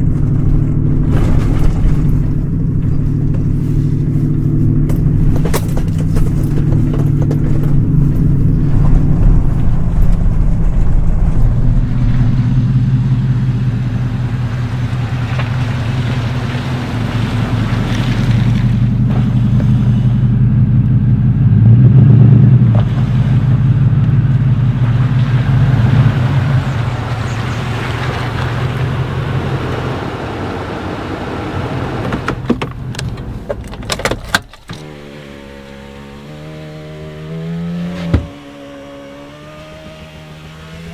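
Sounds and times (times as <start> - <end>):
pickup truck engine running: 0.0 - 36.6
road noise: 0.0 - 40.9.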